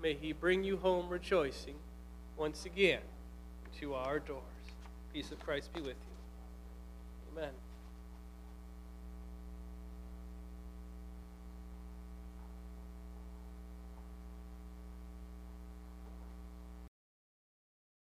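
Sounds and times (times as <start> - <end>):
electrical mains hum: 0.0 - 16.9.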